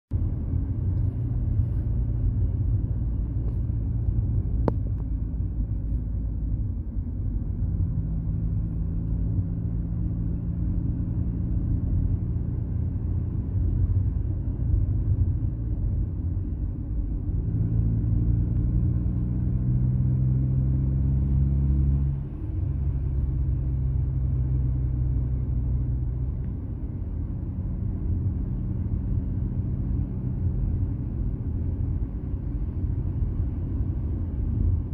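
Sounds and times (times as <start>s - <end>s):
car engine and road rumble: 0.1s - 34.9s.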